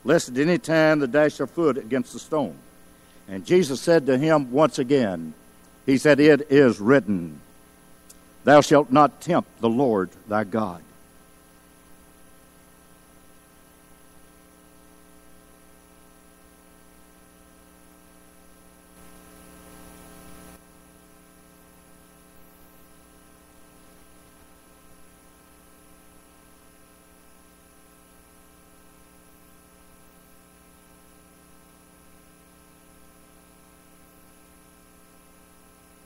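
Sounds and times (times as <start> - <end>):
electrical hum with hiss: 0.0 - 36.0.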